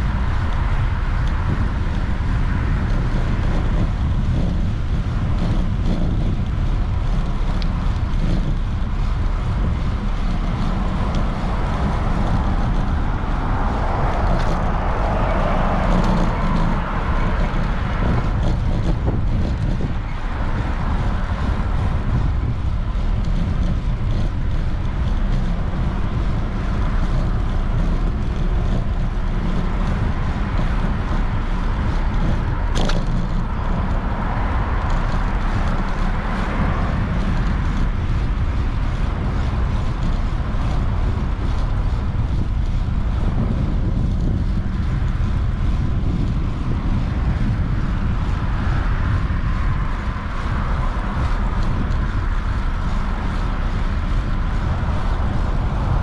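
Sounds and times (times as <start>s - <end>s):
passing car traffic: 0.0s - 56.0s
wind buffeting microphone: 0.0s - 56.0s.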